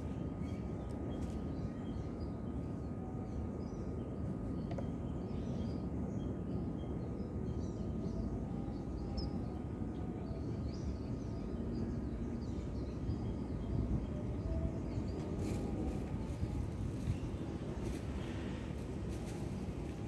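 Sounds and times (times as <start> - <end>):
small birds chirping: 0.0 - 20.0
steady low rumble: 0.0 - 20.0.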